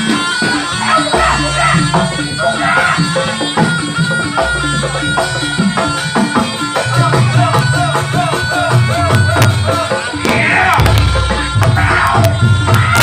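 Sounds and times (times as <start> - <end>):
drums and struck percussion: 0.0 - 13.0
sustained tones: 0.5 - 13.0.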